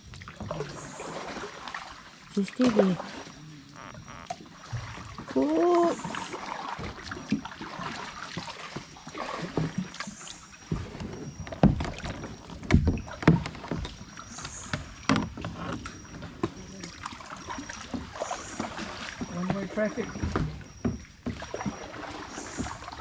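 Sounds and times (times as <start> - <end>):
paddle strokes splashing: 0.2 - 12.7, 13.4 - 23.0.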